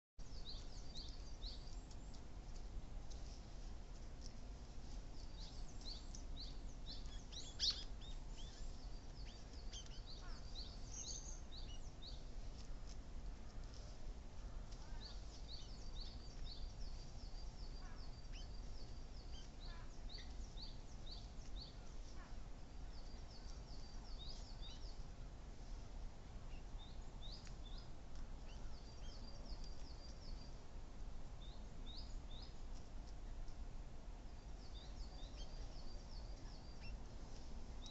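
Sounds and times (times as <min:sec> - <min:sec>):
low background rumble: 0:00.2 - 0:37.9
small birds chirping: 0:00.2 - 0:37.9.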